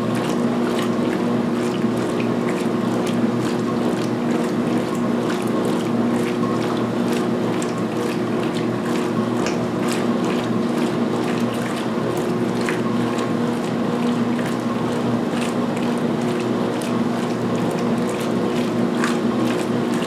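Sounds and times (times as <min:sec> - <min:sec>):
washing machine motor hum: 0:00.0 - 0:20.0
water sloshing: 0:00.0 - 0:20.0.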